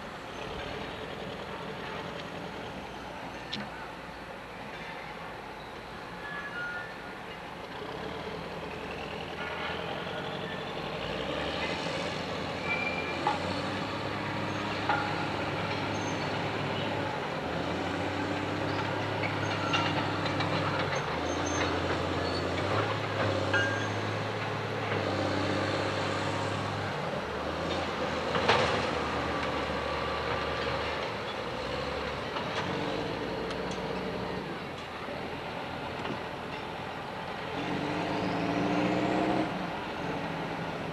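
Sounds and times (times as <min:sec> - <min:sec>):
diesel locomotive engine drone: 0:00.0 - 0:40.9.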